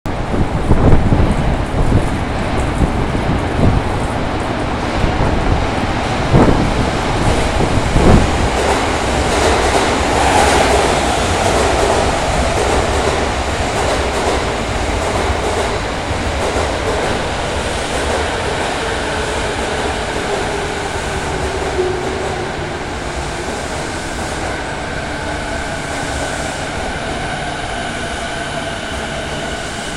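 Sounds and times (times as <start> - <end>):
train wheels rumbling on rail: 0.1 - 29.9.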